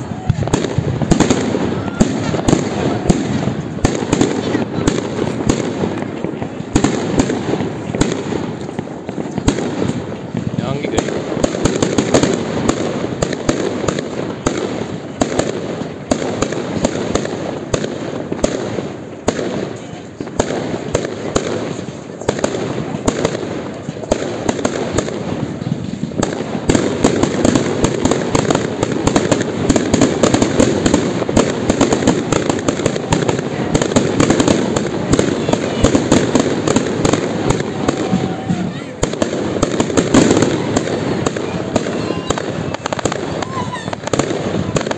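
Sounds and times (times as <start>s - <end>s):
fireworks bursting: 0.0s - 44.9s.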